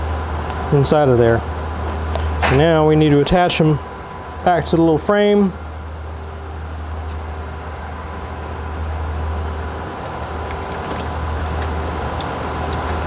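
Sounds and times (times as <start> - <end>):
cooling fans droning: 0.0 - 13.0.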